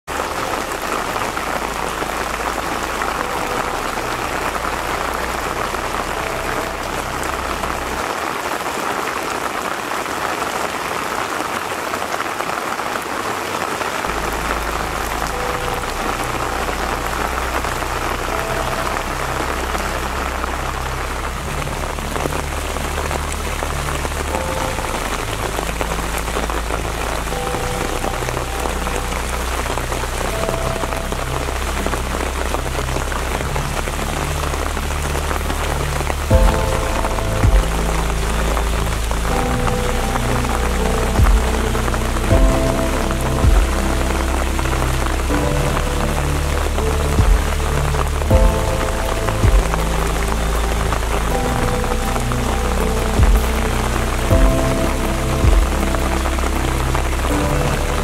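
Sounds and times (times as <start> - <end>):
steady rain on wet ground: 0.0 - 58.0.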